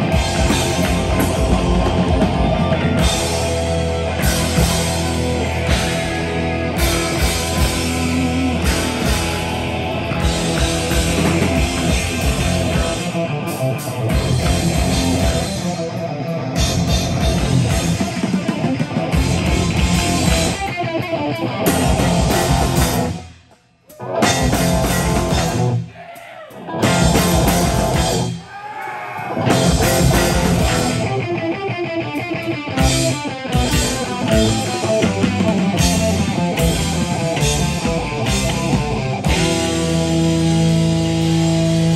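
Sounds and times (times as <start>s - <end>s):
live metal band playing: 0.0s - 28.5s, 29.2s - 41.9s.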